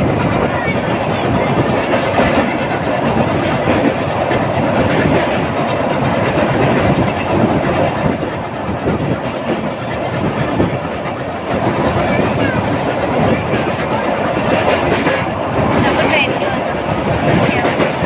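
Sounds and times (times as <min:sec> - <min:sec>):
rail clatter: 0:00.0 - 0:18.0
train rumbling over bridge: 0:00.0 - 0:18.0.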